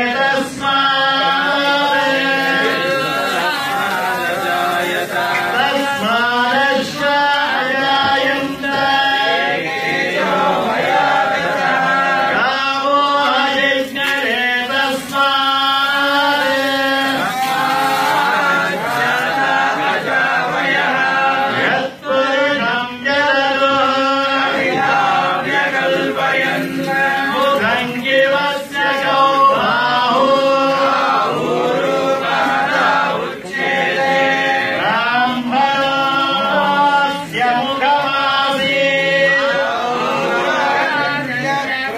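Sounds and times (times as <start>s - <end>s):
men chanting a hymn: 0.0s - 41.9s.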